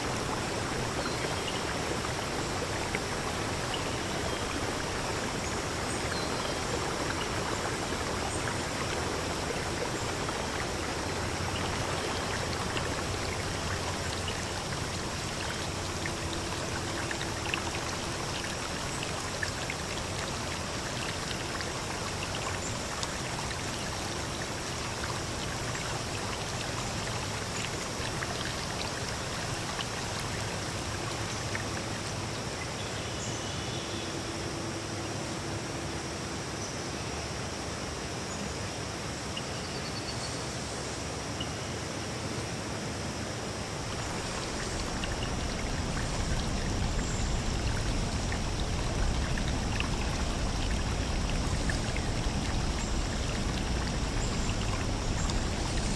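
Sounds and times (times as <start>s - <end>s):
stream rushing: 0.0s - 32.7s, 41.0s - 55.9s.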